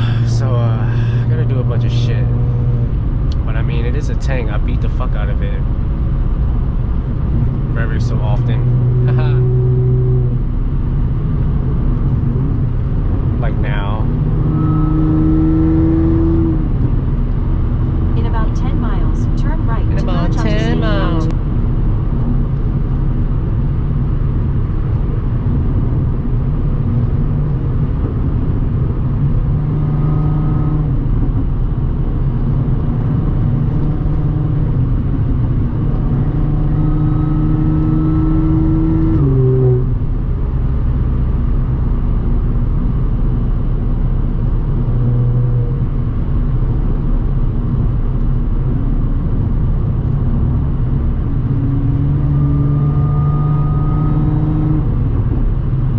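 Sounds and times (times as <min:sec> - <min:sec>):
car engine at road speed: 0:00.0 - 0:55.9.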